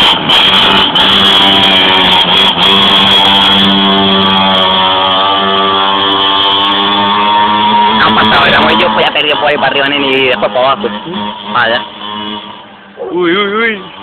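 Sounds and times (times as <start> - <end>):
small engine buzzing: 0.0 - 14.0.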